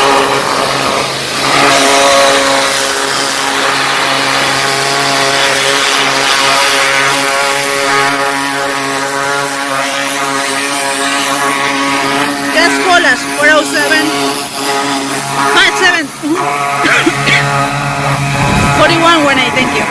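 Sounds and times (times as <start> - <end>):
pressure washer engine droning: 0.0 - 19.9
water spray hissing: 0.0 - 19.9.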